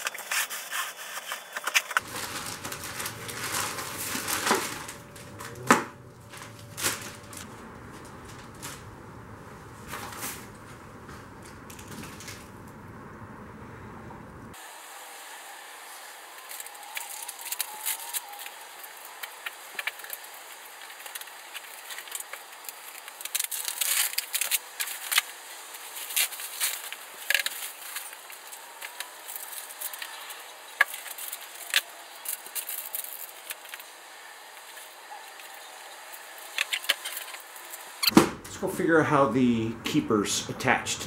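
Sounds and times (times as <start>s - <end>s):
bubble wrap crinkling: 0.0s - 9.1s, 9.7s - 12.7s, 16.3s - 38.1s.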